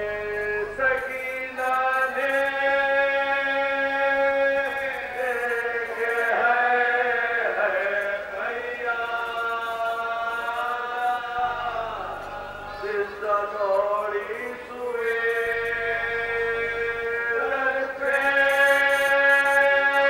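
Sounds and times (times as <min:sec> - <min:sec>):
man chanting: 0:00.0 - 0:20.0.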